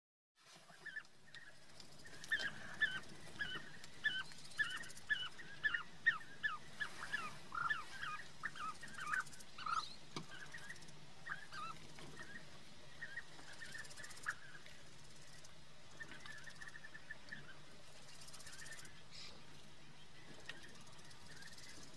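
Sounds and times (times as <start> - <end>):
birds rolling chirps: 0.5 - 21.9.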